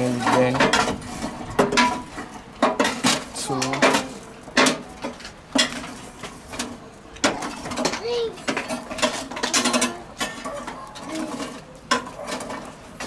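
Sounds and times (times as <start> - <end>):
metal tool clanking in firebox: 0.0 - 13.0.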